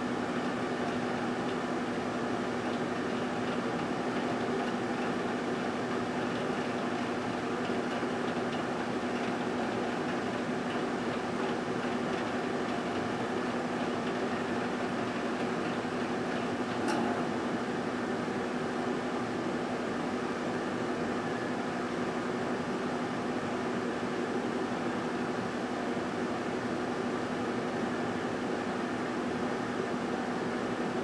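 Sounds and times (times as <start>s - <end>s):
microwave oven humming and whirring: 0.0s - 31.0s.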